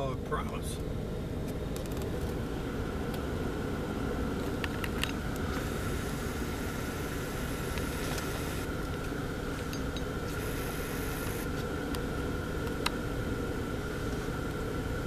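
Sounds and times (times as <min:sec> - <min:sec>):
car engine hum from inside cabin: 0:00.0 - 0:15.0
faint steady whine: 0:00.0 - 0:15.0.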